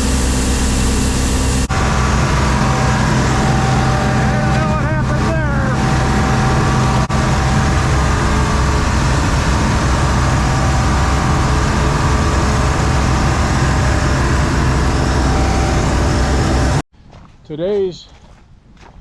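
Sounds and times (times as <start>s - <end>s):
heavy machinery engine drone: 0.0s - 16.8s.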